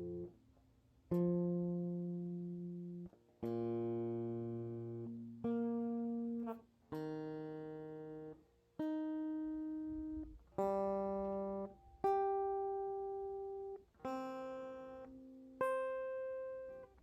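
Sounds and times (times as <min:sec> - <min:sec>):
electric guitar notes plucked: 0:00.0 - 0:00.3, 0:01.1 - 0:17.0.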